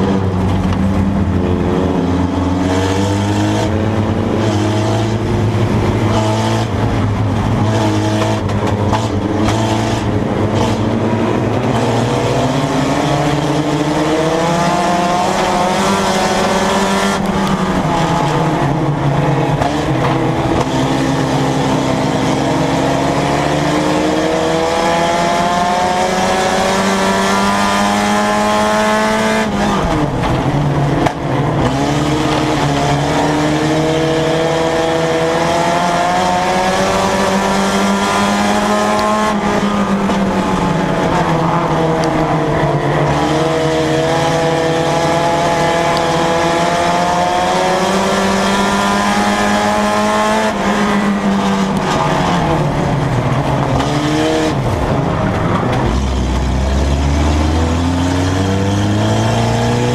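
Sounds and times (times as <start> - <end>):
race car engine under load: 0.0 - 59.9.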